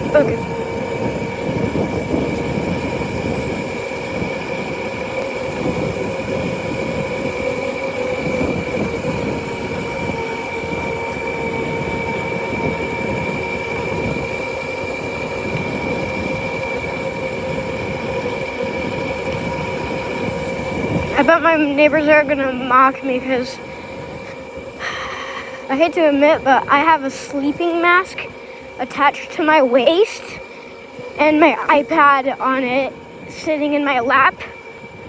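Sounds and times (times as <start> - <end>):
motorcycle engine whine: 0.0 - 35.0
wind buffeting microphone: 0.0 - 35.0.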